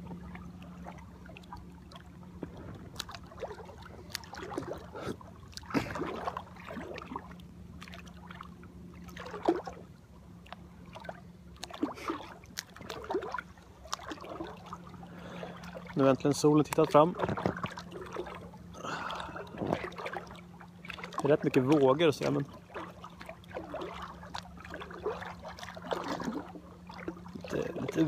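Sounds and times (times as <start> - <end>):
water slapping against rubber boat: 0.0 - 28.0.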